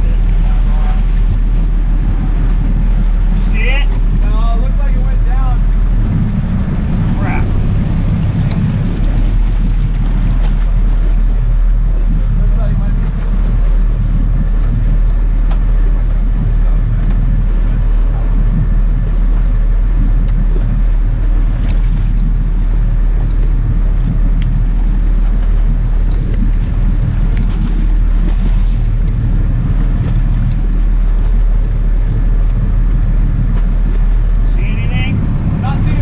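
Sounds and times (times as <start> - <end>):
boat engines rumbling: 0.0 - 36.0.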